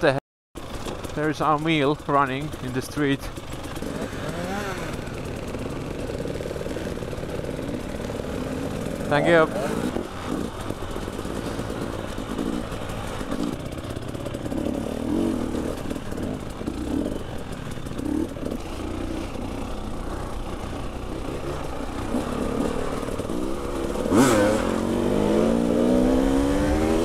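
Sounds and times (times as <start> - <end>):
clatter: 0.6 - 9.1, 9.8 - 24.9
motorcycle engine running: 0.6 - 27.0.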